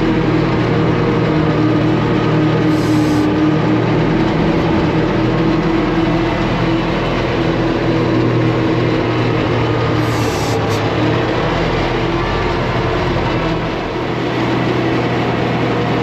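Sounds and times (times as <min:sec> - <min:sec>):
gasoline engine running steadily: 0:00.0 - 0:16.0.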